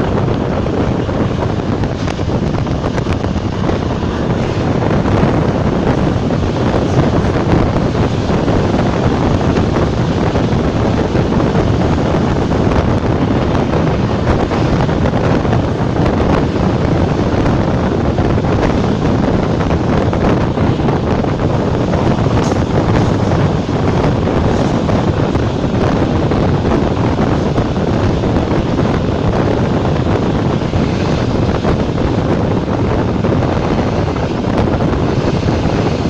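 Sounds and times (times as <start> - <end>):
train rushing at speed: 0.0 - 36.0
wind buffeting microphone: 0.0 - 36.0.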